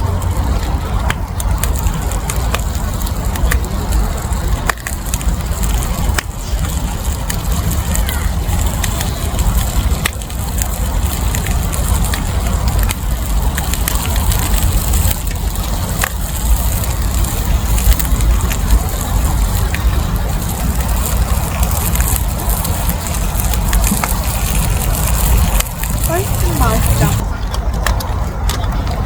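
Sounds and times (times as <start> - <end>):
campfire crackling and popping: 0.0 - 29.0
low rumble: 0.0 - 29.0.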